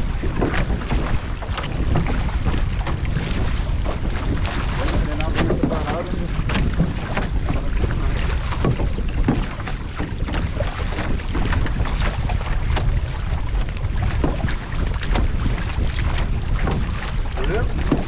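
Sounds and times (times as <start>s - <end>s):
paddle splashes: 0.0s - 18.0s
water sloshing against hull: 0.0s - 18.0s
wind buffeting microphone: 0.0s - 18.0s.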